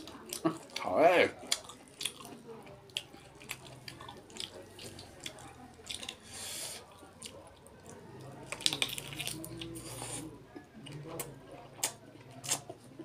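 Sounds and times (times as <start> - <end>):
biting and chewing: 0.0 - 6.3, 6.9 - 13.0.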